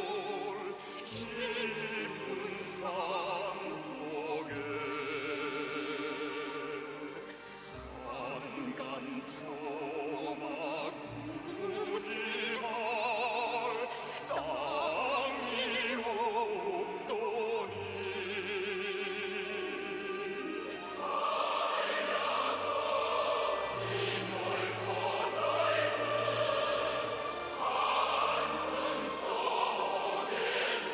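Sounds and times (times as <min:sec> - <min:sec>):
operatic singing: 0:00.0 - 0:30.9
orchestral accompaniment: 0:00.0 - 0:30.9.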